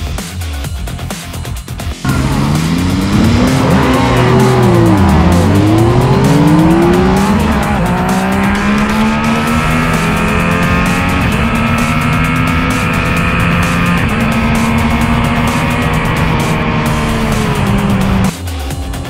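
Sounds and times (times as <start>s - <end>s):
motorcycles accelerating: 2.0s - 18.3s.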